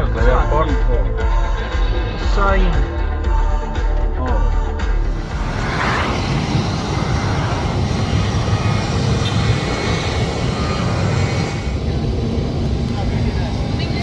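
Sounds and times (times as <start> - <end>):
car driving on highway: 0.0 - 14.0.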